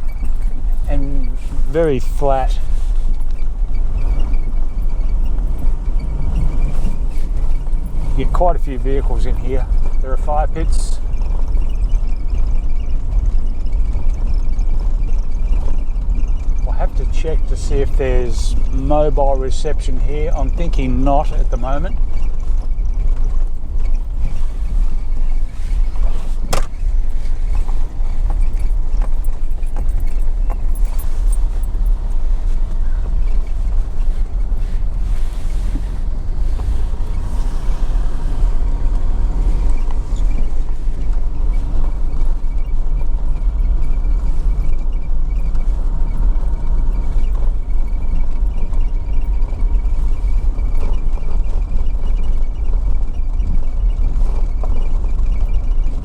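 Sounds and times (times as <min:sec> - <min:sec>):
vehicle engine and tyre rumble: 0:00.0 - 0:56.0.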